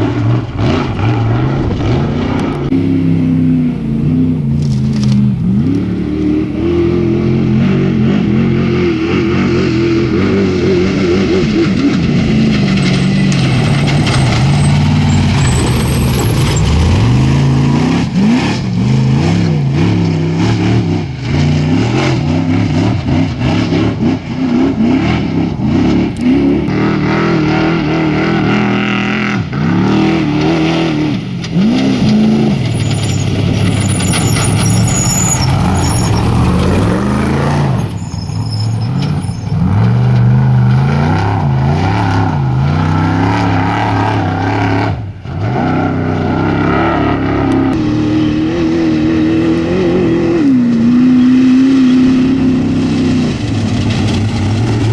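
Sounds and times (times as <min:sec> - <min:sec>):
off-road engines revving by: 0:00.0 - 0:54.9.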